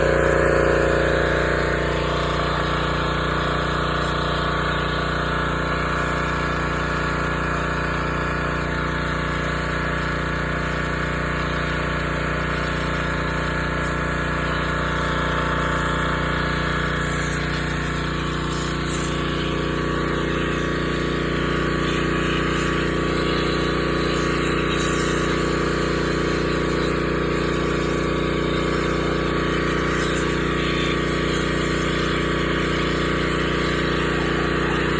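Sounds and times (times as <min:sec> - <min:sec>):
pressure washer running: 0:00.0 - 0:34.9.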